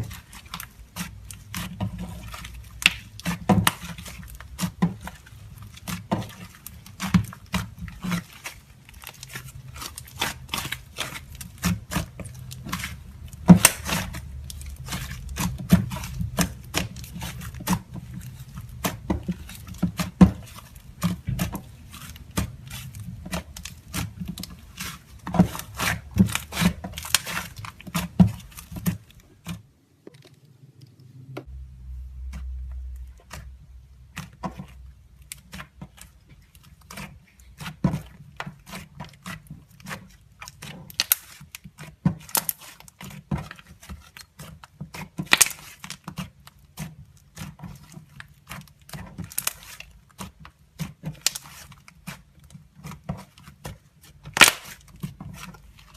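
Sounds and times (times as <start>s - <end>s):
slime squished by hand: 0.0s - 30.8s, 32.1s - 55.9s.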